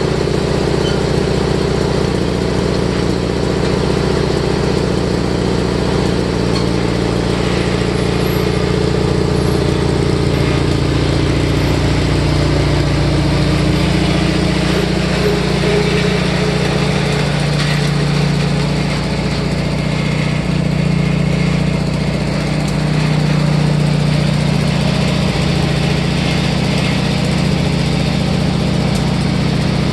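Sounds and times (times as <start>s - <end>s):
lawn tractor engine running: 0.0s - 29.9s.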